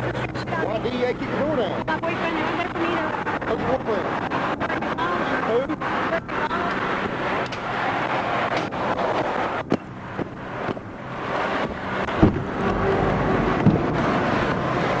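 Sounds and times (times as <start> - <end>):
road traffic: 0.0 - 15.0
wind noise on microphone: 0.0 - 15.0.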